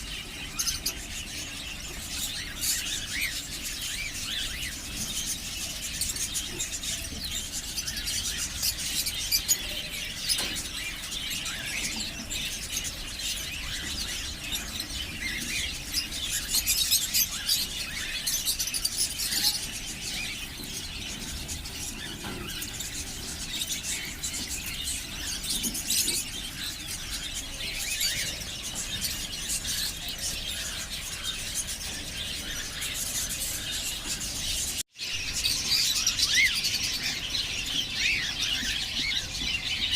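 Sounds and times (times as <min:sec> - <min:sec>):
parakeets chirping and squeaking: 0:00.0 - 0:39.9.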